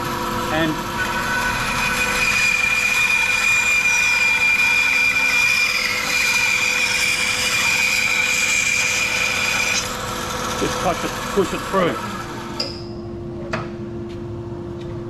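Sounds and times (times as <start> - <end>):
bandsaw cutting wood: 0.0 - 12.7.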